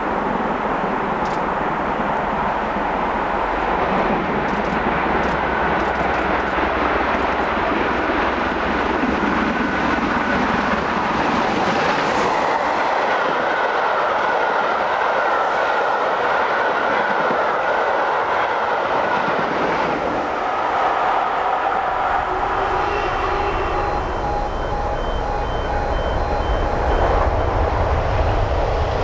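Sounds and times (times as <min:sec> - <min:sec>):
steam locomotive low rumble: 0:00.0 - 0:29.0
train coaches rattling on rails: 0:00.0 - 0:29.0.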